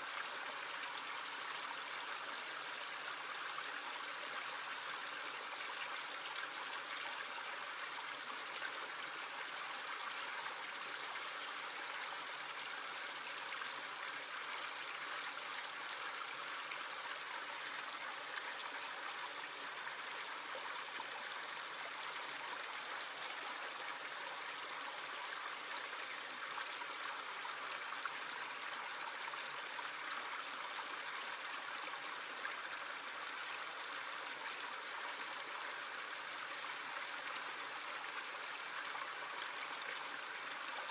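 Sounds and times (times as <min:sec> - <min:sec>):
creek water rushing over stones: 0:00.0 - 0:40.9.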